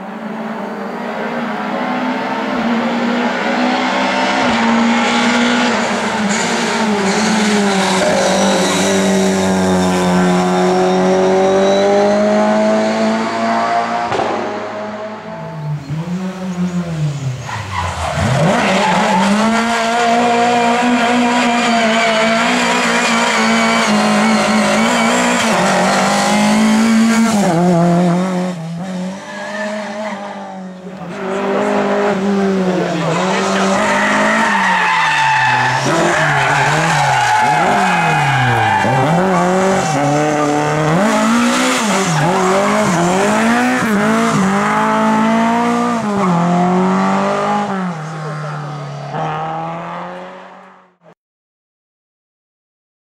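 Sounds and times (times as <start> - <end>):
race car engine at high revs: 0.0 - 51.1.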